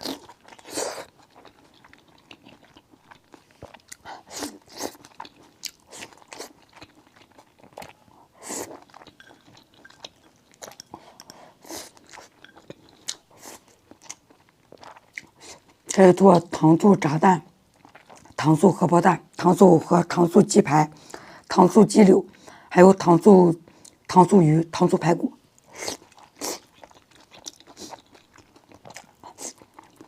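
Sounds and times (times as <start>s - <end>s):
chewing and crunching food: 0.0s - 20.2s, 23.7s - 24.1s, 25.4s - 30.0s.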